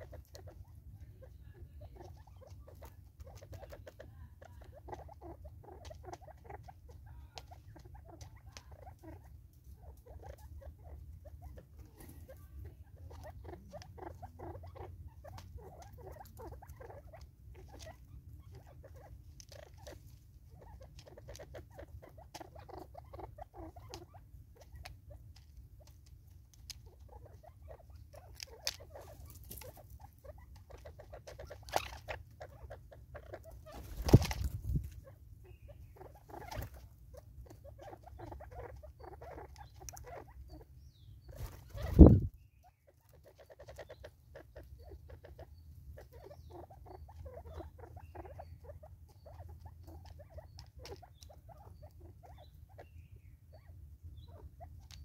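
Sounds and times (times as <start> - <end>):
birds pecking and scratching on wood: 0.0 - 55.0.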